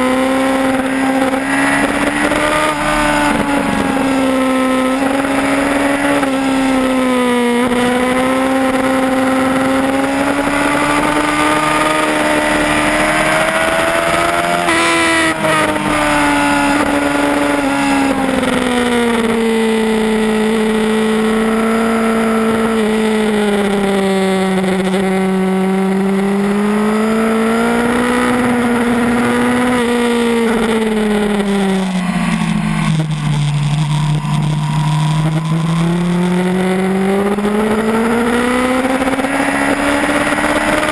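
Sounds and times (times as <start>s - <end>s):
motorcycle engine running hard: 0.0s - 40.9s.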